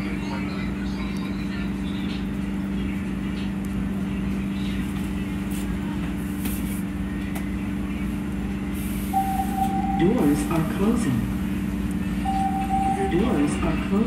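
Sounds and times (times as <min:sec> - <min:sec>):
constant low hum: 0:00.0 - 0:14.0
subway train rumbling: 0:00.0 - 0:14.0.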